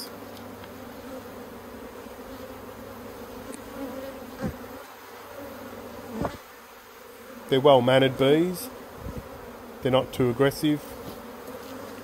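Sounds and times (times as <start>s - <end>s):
honeybees humming: 0.0s - 12.0s
louder bee buzz: 0.0s - 12.0s.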